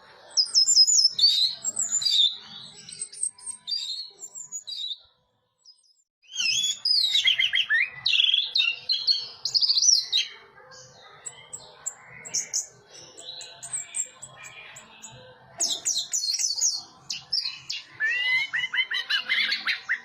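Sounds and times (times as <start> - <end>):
high bird chirps: 0.0 - 20.0.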